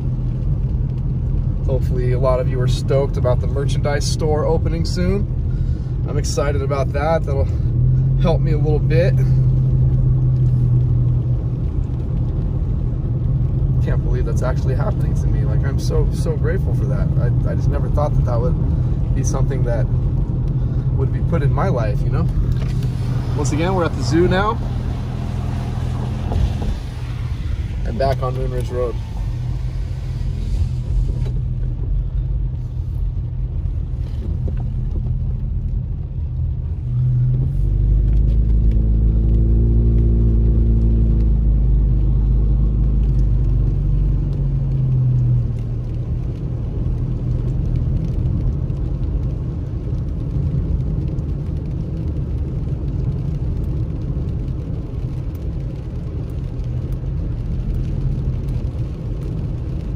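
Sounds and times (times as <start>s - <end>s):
car engine hum: 0.0s - 59.9s
car tyres on wet pavement: 0.0s - 59.9s.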